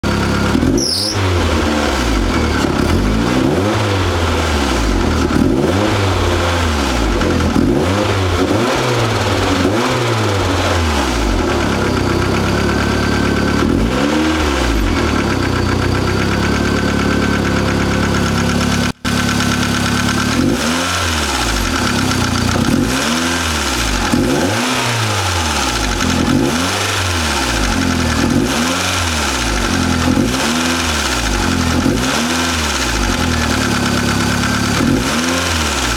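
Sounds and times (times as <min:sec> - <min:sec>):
car engine revving with clatter: 0:00.0 - 0:35.9.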